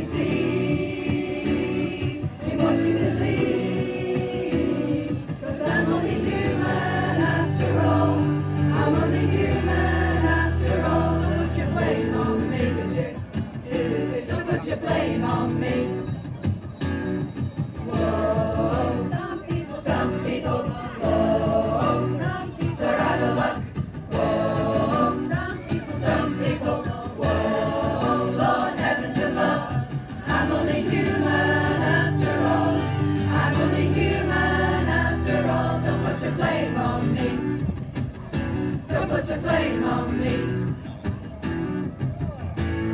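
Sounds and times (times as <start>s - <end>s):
choir singing gospel: 0.0s - 16.2s, 17.8s - 37.7s, 38.8s - 40.8s
musical accompaniment: 0.0s - 42.9s.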